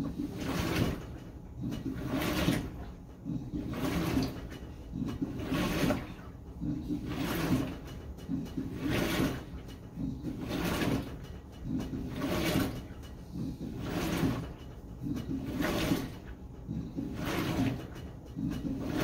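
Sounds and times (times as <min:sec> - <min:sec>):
low motor hum: 0:00.0 - 0:19.0
washer water sloshing: 0:00.0 - 0:19.0.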